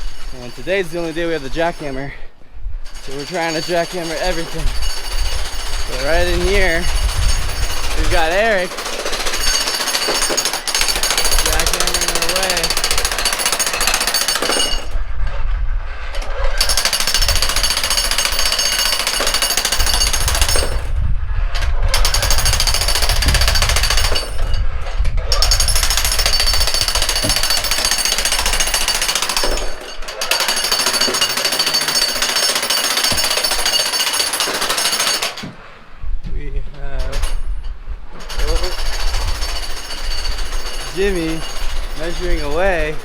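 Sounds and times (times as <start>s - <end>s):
jackhammer hammering: 0.0s - 2.2s, 2.9s - 15.0s, 16.2s - 21.0s, 21.9s - 35.6s, 37.0s - 37.6s, 38.2s - 43.0s.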